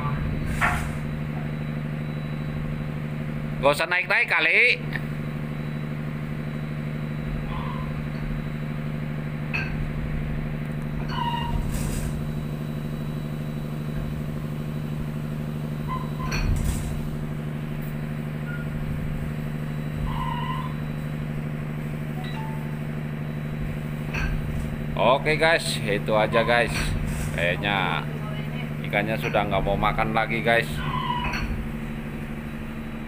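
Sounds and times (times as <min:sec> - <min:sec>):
ship machinery humming: 0:00.0 - 0:33.0.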